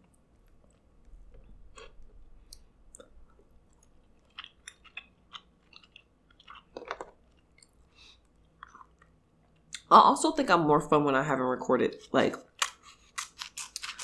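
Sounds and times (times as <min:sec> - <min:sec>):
person chewing: 0:00.0 - 0:09.8, 0:12.5 - 0:14.0.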